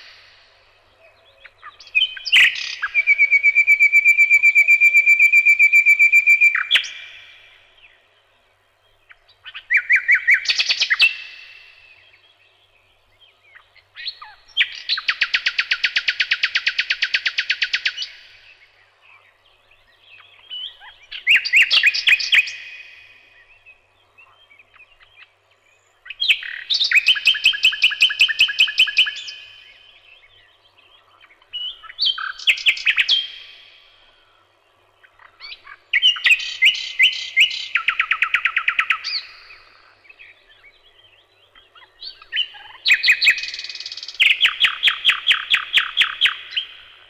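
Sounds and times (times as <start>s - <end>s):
songbird singing: 0.0s - 47.0s.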